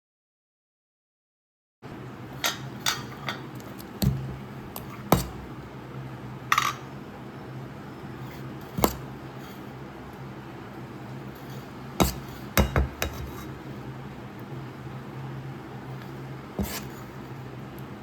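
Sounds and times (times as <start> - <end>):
steady low hum: 1.8 - 18.0.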